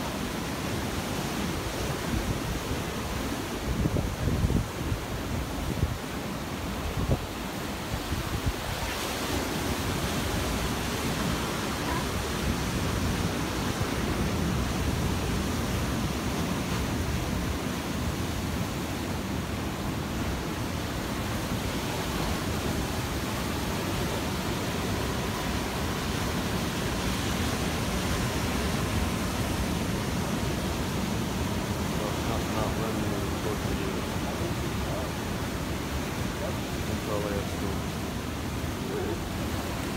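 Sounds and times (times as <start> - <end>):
surf breaking over rocks: 0.0 - 39.9.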